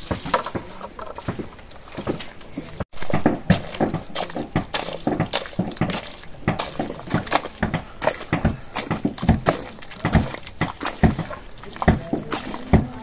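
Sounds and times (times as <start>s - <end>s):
hoe chopping wet mud: 0.0s - 13.0s.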